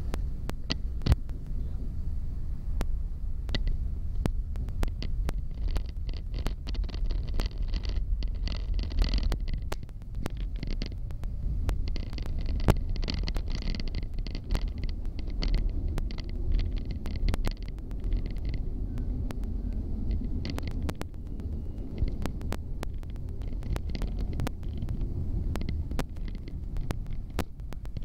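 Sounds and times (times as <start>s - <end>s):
sharp rail clicks: 0.0s - 1.6s, 2.6s - 28.0s
train rumbling on rails: 0.0s - 28.0s.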